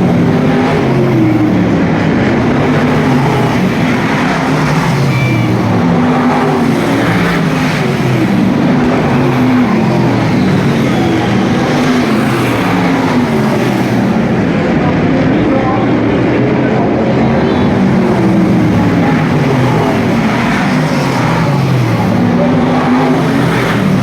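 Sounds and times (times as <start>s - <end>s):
stock car engines racing: 0.0s - 24.0s.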